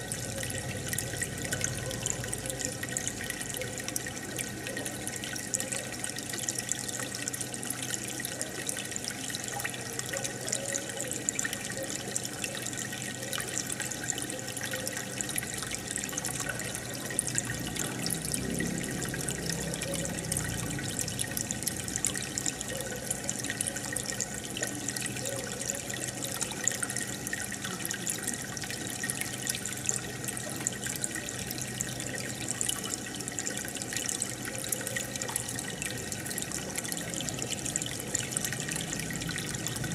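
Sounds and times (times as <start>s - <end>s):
aquarium water bubbling: 0.0s - 39.9s
continuous low hum: 0.0s - 39.9s.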